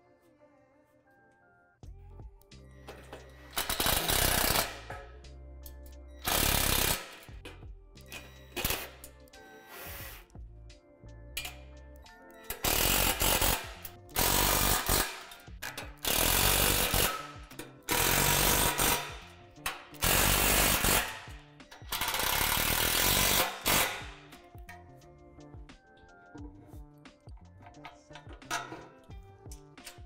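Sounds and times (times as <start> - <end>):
soft background music: 0.0 - 30.0.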